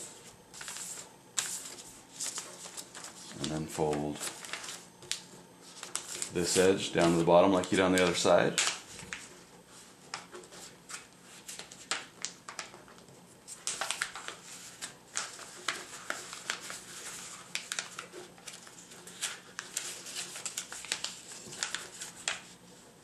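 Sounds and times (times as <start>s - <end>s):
paper rustling and crackling: 0.0s - 22.7s.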